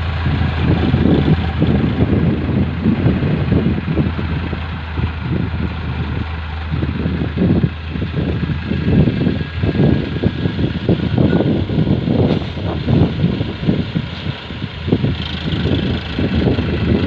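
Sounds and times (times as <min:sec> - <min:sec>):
diesel tractor engine running: 0:00.0 - 0:17.0
low uneven rumbling: 0:00.0 - 0:17.0.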